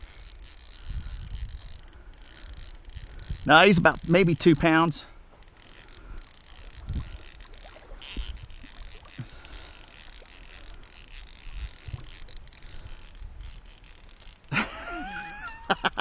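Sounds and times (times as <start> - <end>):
fly reel clicking: 0.0 - 16.0.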